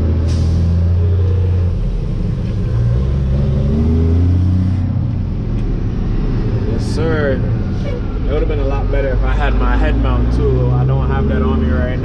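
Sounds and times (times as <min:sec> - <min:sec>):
truck diesel engine accelerating: 0:00.0 - 0:12.0.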